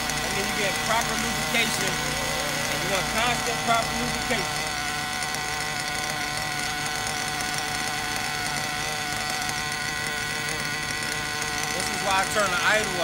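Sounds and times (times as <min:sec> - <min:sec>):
model engine idling: 0:00.0 - 0:13.0.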